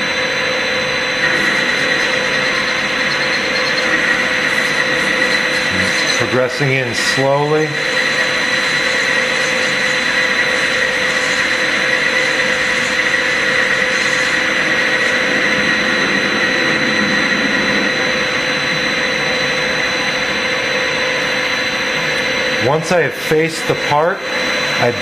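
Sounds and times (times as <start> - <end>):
lathe machine whine: 0.0 - 25.0.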